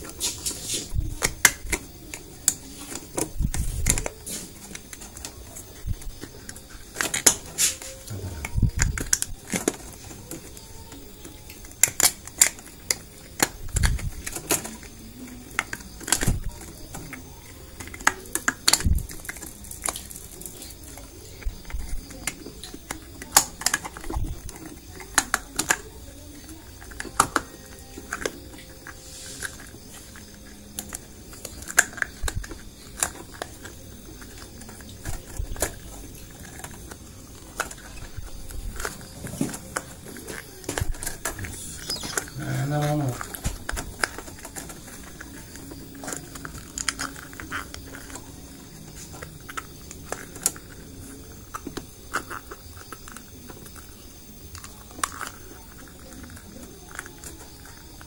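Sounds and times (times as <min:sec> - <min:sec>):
plastic and rubber parts clicking: 0:00.9 - 0:53.9.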